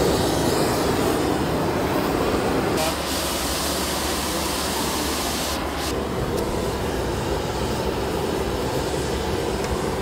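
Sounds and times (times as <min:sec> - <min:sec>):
gas torches burning: 0:00.0 - 0:10.0.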